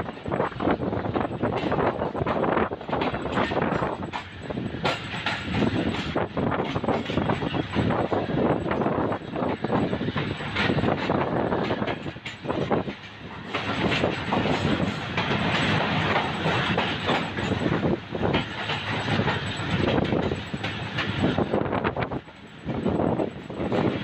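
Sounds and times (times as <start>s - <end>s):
steady rushing noise: 0.0s - 24.0s
train wheels clattering: 0.0s - 24.0s.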